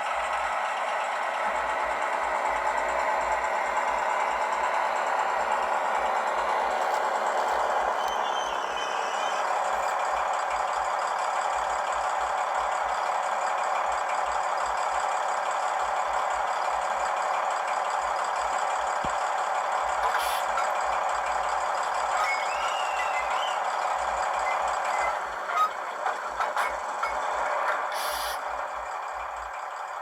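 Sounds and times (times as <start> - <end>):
small speaker diesel engine idling: 0.0 - 30.0.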